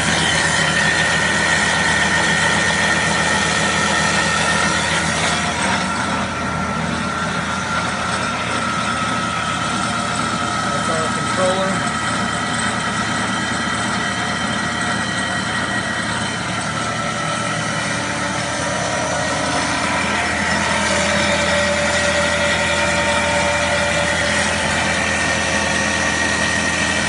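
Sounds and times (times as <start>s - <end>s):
wood lathe machine whine: 0.0s - 27.0s.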